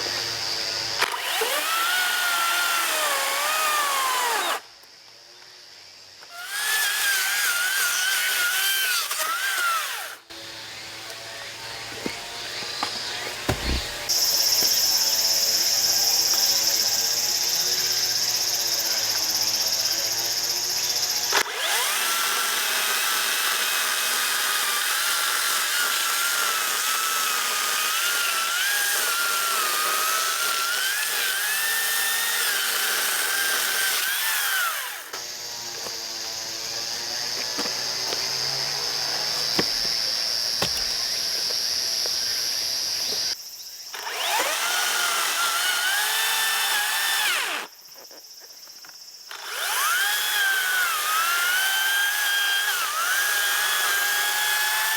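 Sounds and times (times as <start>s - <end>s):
cordless chainsaw cutting wood: 0.0s - 4.6s, 6.3s - 43.4s, 44.0s - 47.7s, 49.3s - 54.9s.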